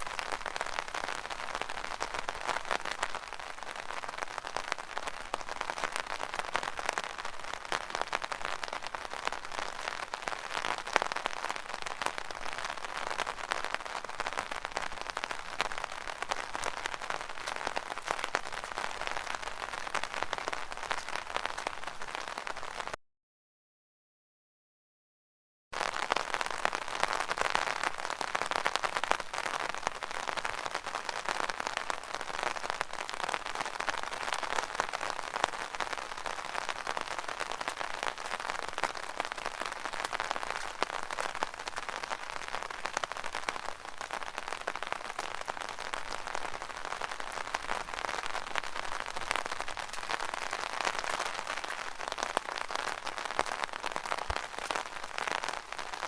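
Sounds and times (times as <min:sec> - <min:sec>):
rain pattering on an umbrella: 0:00.0 - 0:23.0, 0:25.8 - 0:56.0.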